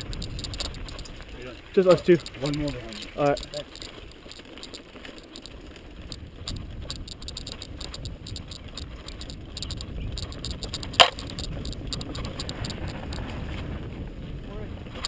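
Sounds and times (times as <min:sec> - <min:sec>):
chain and frame rattles: 0:00.0 - 0:13.2
bike tyres rumbling on dirt: 0:00.0 - 0:15.0.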